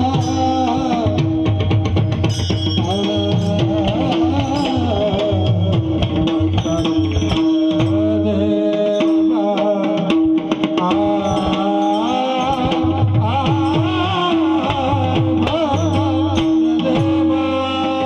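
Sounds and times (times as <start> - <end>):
devotional singing: 2.7 - 18.0.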